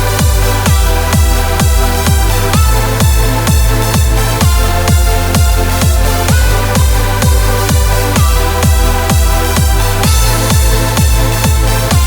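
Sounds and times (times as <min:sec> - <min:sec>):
kick drum beat: 0:00.0 - 0:12.0
sustained synth chords: 0:00.0 - 0:12.0.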